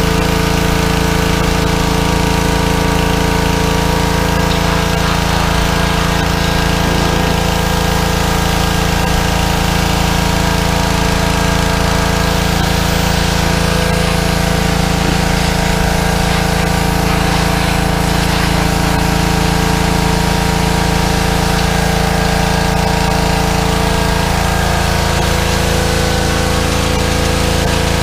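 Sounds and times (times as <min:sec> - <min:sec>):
pressure washer engine running: 0:00.0 - 0:28.0.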